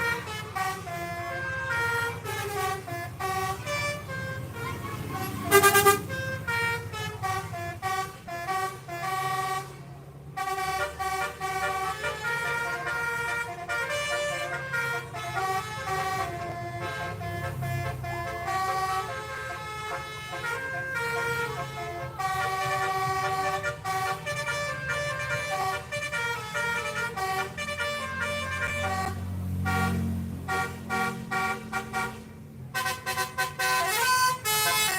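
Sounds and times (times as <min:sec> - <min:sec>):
bus engine humming: 0:00.0 - 0:34.9
multi-tone bus horn melody: 0:00.0 - 0:34.9.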